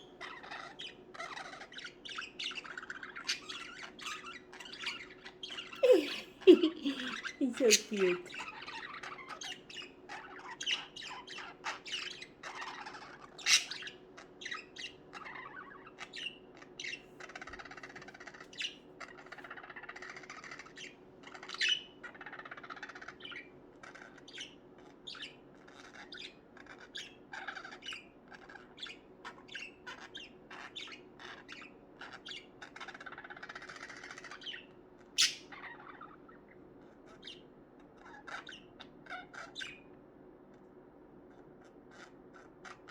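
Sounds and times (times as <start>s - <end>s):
budgerigars chirping: 0.0s - 40.0s, 41.3s - 42.9s.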